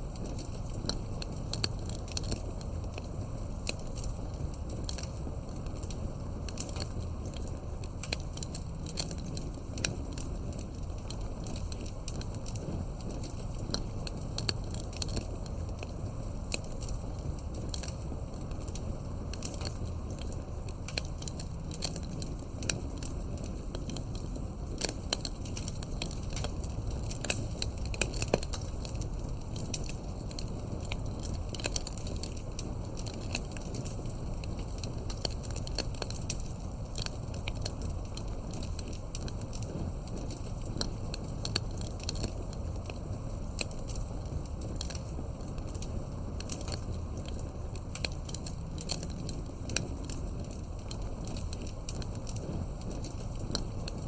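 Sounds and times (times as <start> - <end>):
campfire crackling and popping: 0.0 - 54.0
low rumble of burning wood: 0.0 - 54.0.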